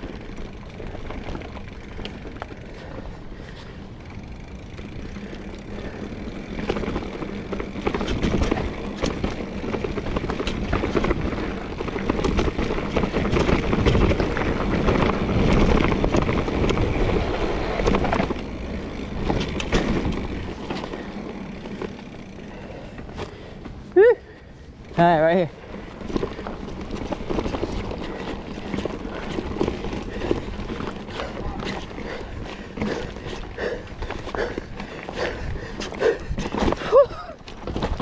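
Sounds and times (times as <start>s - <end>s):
bike rattling over bumps: 0.0s - 38.0s
bike tyres on dirt trail: 0.0s - 38.0s.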